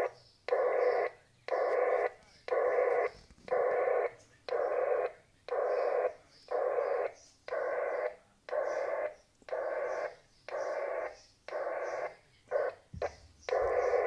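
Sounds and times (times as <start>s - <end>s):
buzzing radio data bursts: 0.0s - 14.0s.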